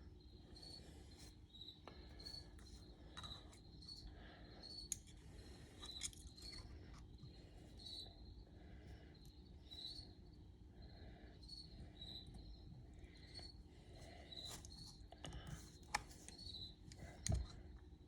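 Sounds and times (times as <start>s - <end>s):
cricket chirping: 0.1s - 8.5s, 9.1s - 15.1s, 16.3s - 17.2s.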